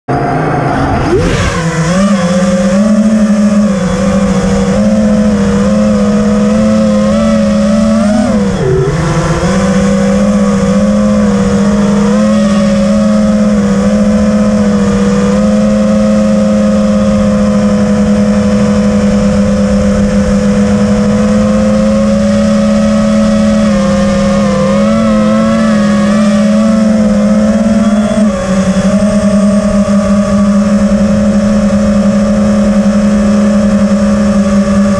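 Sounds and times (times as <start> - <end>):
drone motors whining: 0.1 - 34.9.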